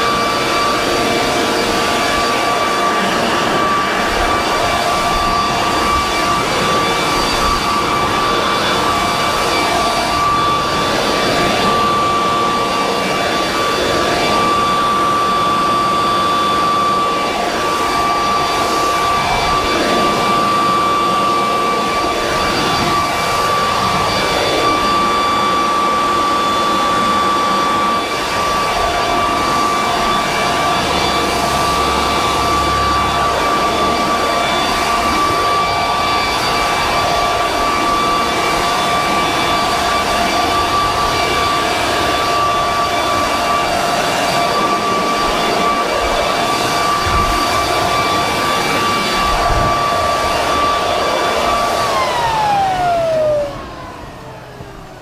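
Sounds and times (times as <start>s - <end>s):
leaf blower running: 0.0s - 55.0s.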